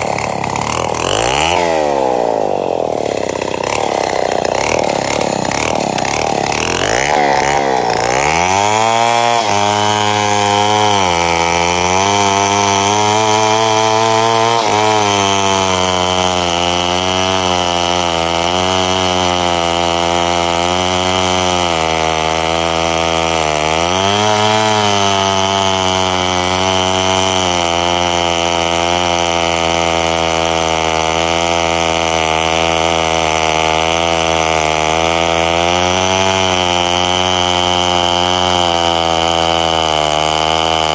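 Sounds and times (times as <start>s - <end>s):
chainsaw cutting under load: 0.0s - 40.9s.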